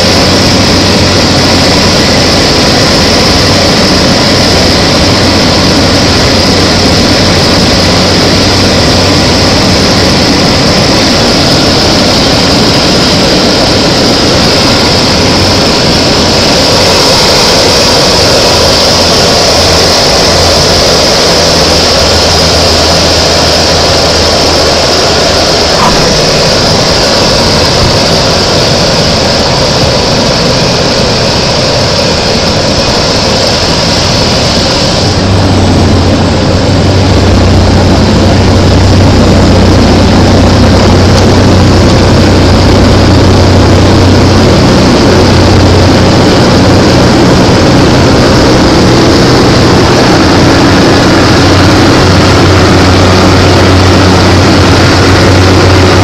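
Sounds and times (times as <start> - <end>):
small aircraft engine drone in cockpit: 0.0 - 56.0.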